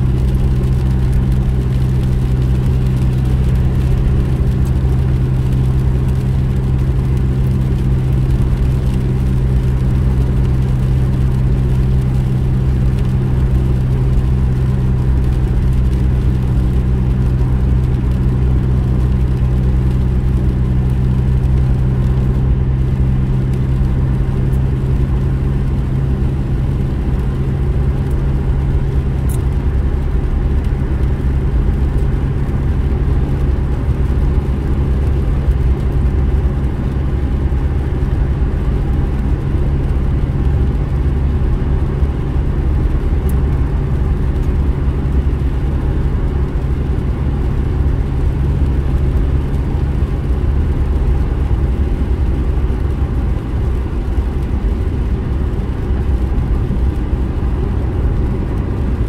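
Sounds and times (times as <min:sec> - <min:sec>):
car engine drone: 0:00.0 - 0:59.0
tyres on wet road: 0:00.0 - 0:59.0.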